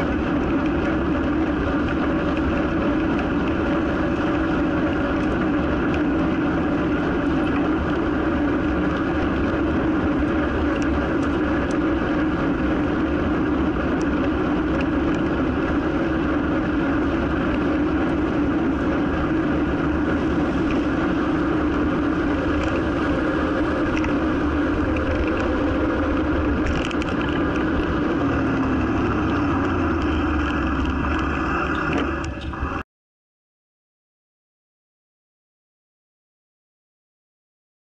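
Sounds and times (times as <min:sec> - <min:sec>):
bicycle tyres rumbling on road: 0:00.0 - 0:32.8
traffic passing: 0:00.0 - 0:32.8
wind rushing on microphone: 0:00.0 - 0:32.8.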